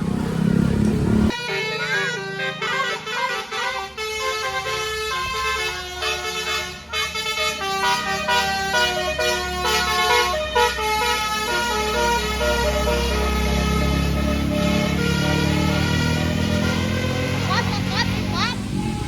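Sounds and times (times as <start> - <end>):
bus engine rumble: 0.0 - 19.0
bus horn playing a tune: 1.3 - 19.0.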